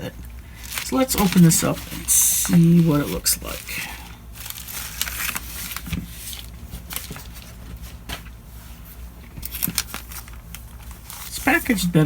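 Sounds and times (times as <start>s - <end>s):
packaging rustling and crinkling: 0.2s - 12.0s.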